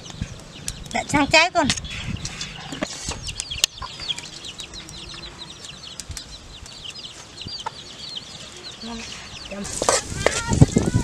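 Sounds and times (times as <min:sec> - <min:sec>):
chickens peeping: 0:00.0 - 0:11.0.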